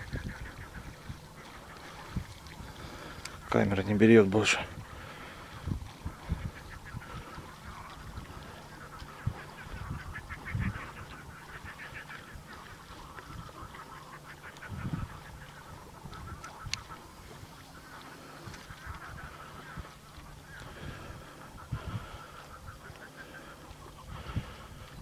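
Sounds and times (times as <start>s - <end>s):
waterfowl chattering calls: 0.0s - 25.0s.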